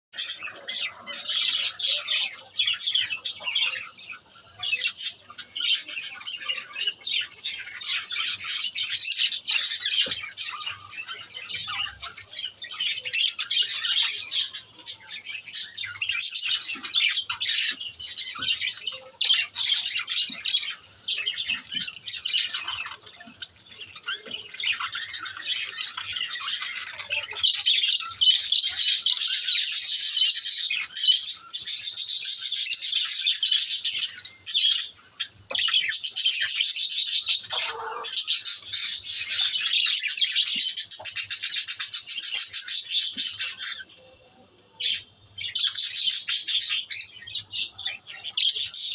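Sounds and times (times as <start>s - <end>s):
lovebirds chattering and squawking: 0.2s - 48.9s.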